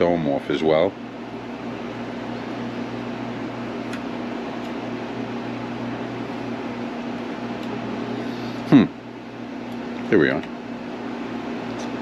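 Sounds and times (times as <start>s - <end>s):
electric motor hum: 0.0s - 12.0s.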